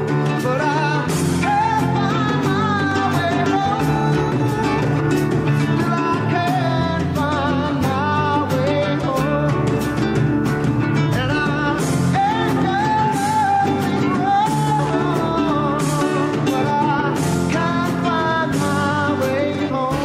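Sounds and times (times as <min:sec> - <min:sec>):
instrumental backing with beat: 0:00.0 - 0:20.0
person singing: 0:00.0 - 0:20.0.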